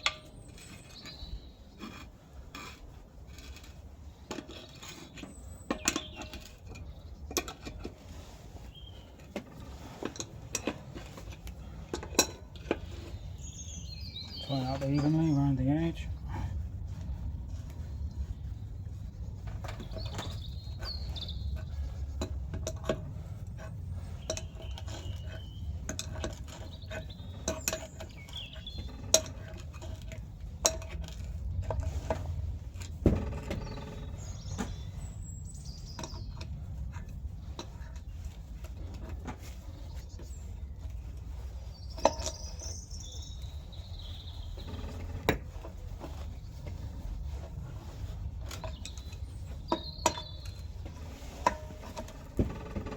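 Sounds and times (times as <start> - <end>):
birds chirping: 0.0 - 1.9, 4.5 - 7.9, 8.6 - 22.4, 23.5 - 29.6, 33.2 - 52.9
low background rumble: 0.0 - 52.9.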